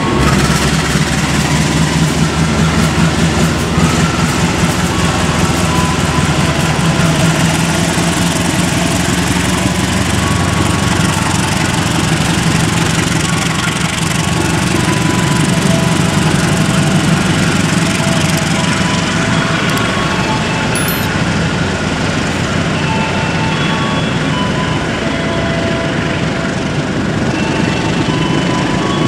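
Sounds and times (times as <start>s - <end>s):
carriages rumbling past: 0.0s - 29.0s
diesel engine drone: 0.0s - 29.0s.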